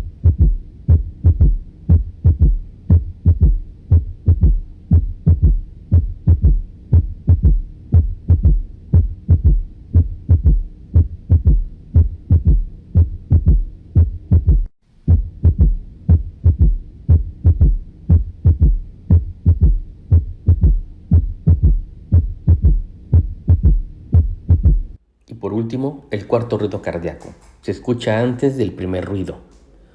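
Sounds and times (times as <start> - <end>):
heartbeat through stethoscope: 0.0 - 25.0.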